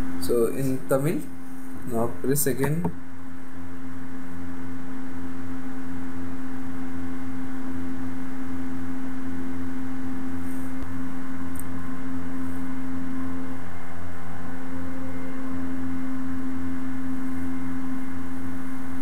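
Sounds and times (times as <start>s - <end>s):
loud low hum: 0.0s - 19.0s.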